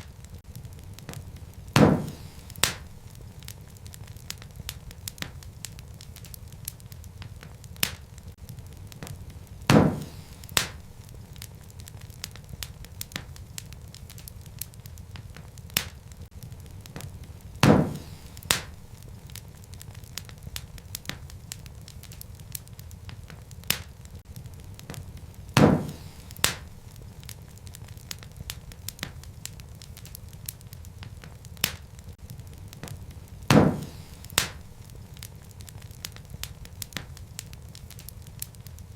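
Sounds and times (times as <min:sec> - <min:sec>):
fine crackling of burning logs: 0:00.0 - 0:38.9
loud wood fire pops: 0:00.0 - 0:38.9
low rumble of flame: 0:00.0 - 0:38.9.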